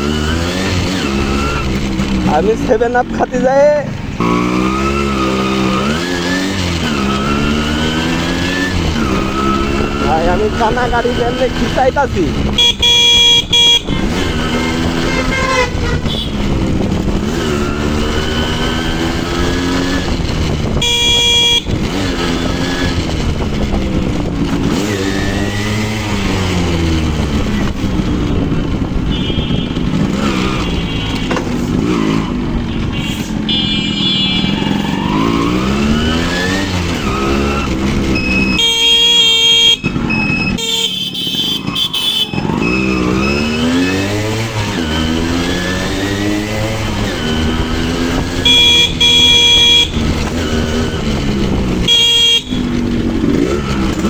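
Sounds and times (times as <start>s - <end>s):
two-stroke motorcycle engine revving: 0.0s - 54.0s
vehicle horns: 4.2s - 16.8s, 17.4s - 23.0s, 28.8s - 54.0s.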